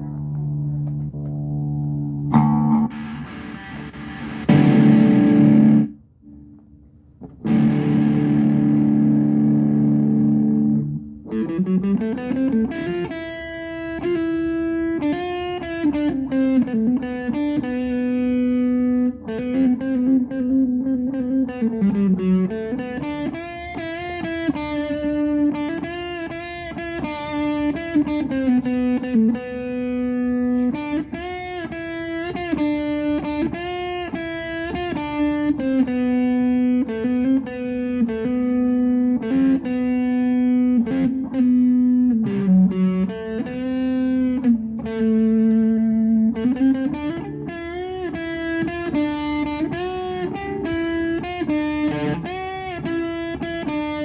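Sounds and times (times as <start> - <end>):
electric guitar melody with bends: 0.0 - 54.0
electric guitar strummed chords: 0.0 - 54.0.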